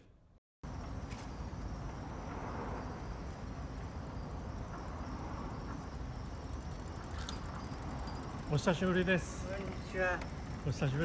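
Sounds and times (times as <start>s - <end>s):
street ambience: 0.0s - 11.0s.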